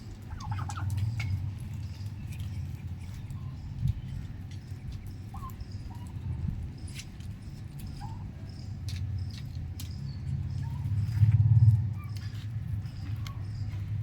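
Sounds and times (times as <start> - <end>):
steady low rumble: 0.0 - 14.0
young turkeys peeping: 0.0 - 14.0.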